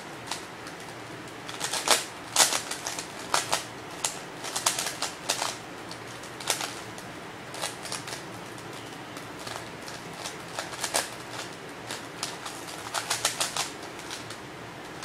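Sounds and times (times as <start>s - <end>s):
puzzle cube clicking: 0.3s - 15.0s.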